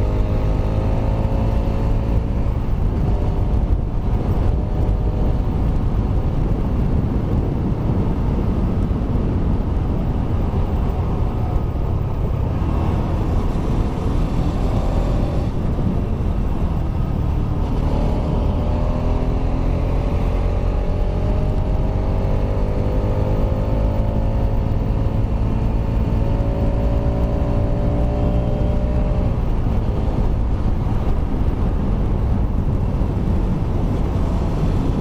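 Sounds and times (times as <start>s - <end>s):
motorcycle engine accelerating: 0.0s - 35.0s
wind rumble on microphone: 0.0s - 35.0s.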